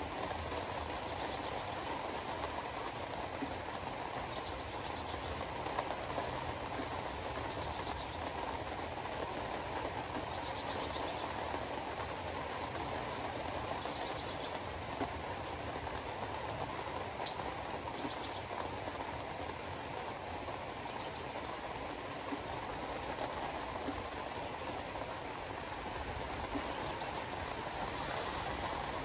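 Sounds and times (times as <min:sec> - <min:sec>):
tyres hissing on wet road: 0:00.0 - 0:29.0.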